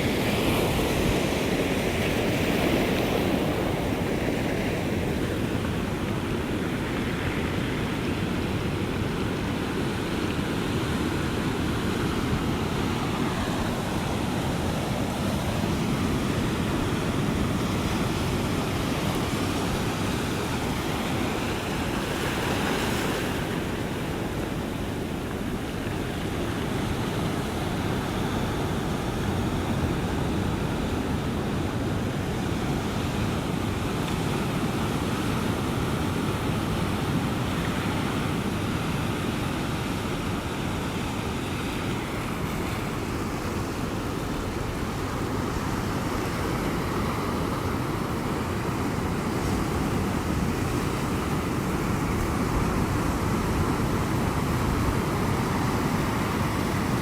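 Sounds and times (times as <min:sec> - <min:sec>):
ocean waves rushing: 0:00.0 - 0:57.0.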